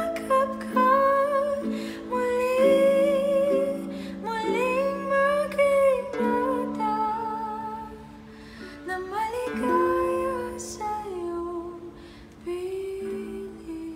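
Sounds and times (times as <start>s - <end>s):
woman singing a ballad: 0.0s - 13.9s.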